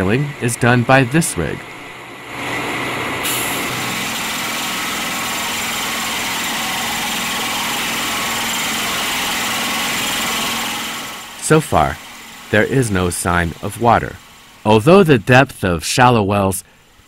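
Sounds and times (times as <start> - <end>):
drilling rig engine and drill: 0.0 - 17.0.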